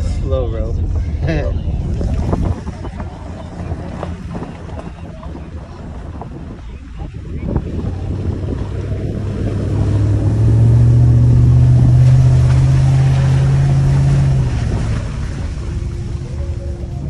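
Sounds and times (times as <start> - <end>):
engine heard inside vehicle: 0.0 - 17.0.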